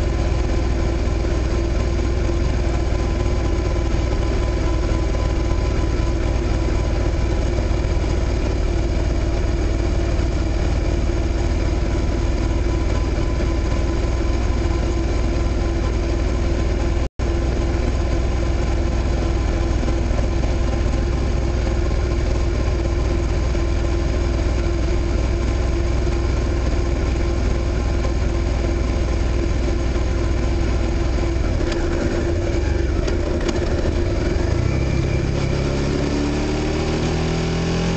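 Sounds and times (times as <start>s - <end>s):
motorcycle engine ticking over: 0.0s - 35.6s.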